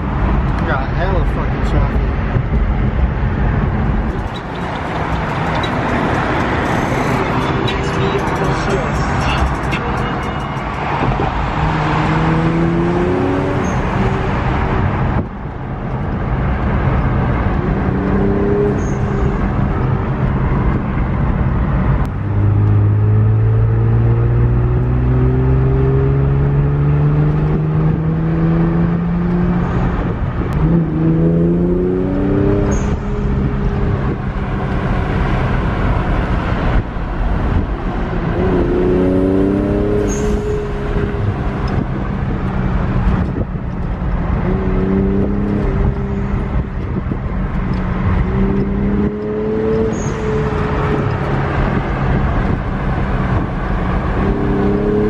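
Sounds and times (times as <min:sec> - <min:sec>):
car engine accelerating: 0:00.0 - 0:55.0
road noise: 0:00.0 - 0:55.0.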